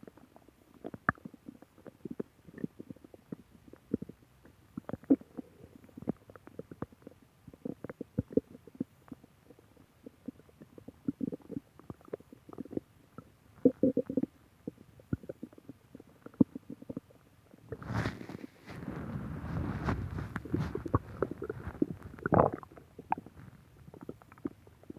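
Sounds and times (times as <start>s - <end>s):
stomach gurgling and growling: 0.0s - 24.9s.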